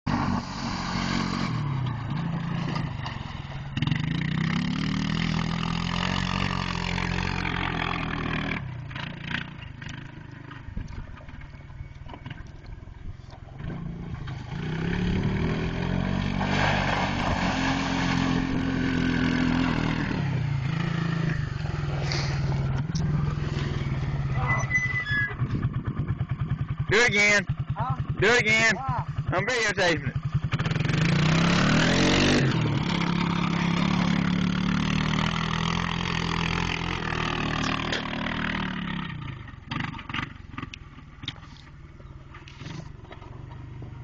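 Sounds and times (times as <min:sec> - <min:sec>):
atv engine revving: 0:00.1 - 0:12.8, 0:13.5 - 0:44.0.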